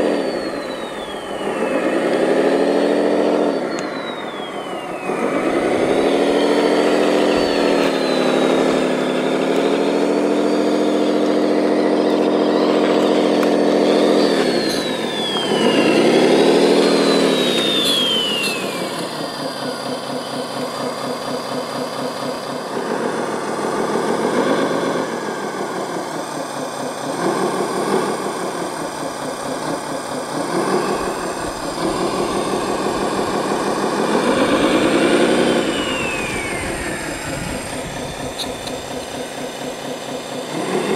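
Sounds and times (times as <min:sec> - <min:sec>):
high whine: 0:00.0 - 0:40.9
model wheel loader engine: 0:00.0 - 0:40.9.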